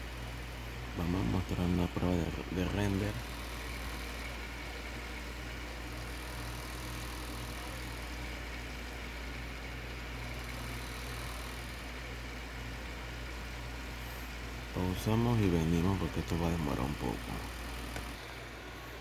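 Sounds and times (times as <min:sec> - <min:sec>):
computer hum and hiss: 0:00.0 - 0:19.0.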